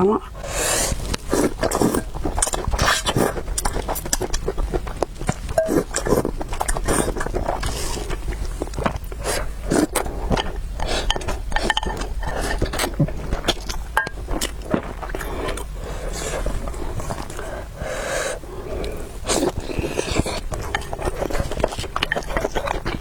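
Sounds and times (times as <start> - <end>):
chewing and mouth clicks: 0.9 - 17.5, 18.7 - 23.0.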